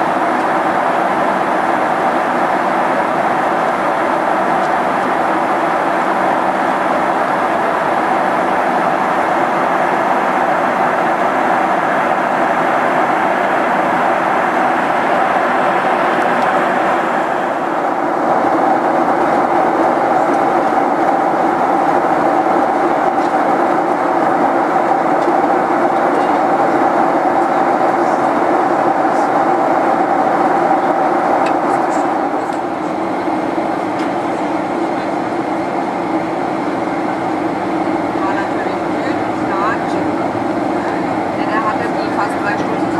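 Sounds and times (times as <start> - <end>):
jet engine roar in cabin: 0.0 - 42.9.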